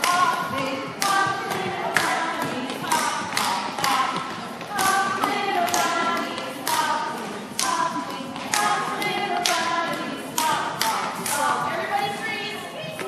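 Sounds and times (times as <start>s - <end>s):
adults and children singing: 0.0s - 13.0s.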